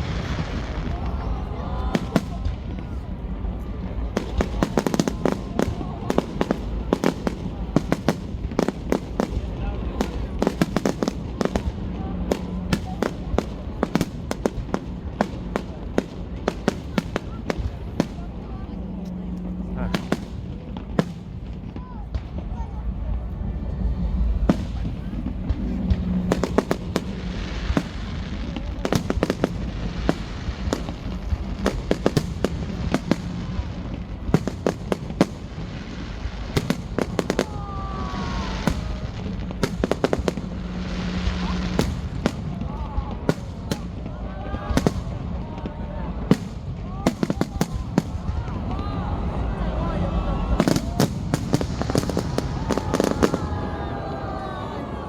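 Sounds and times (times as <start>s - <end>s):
faint crowd voices: 0.0s - 55.0s
fireworks bangs and crackles: 0.0s - 55.0s
low rumble: 0.0s - 55.0s.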